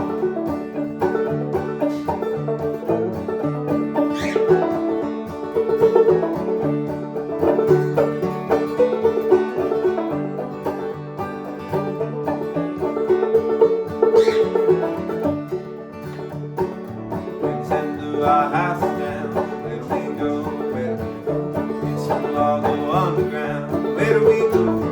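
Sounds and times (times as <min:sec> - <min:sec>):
plucked string instruments: 0:00.0 - 0:24.9.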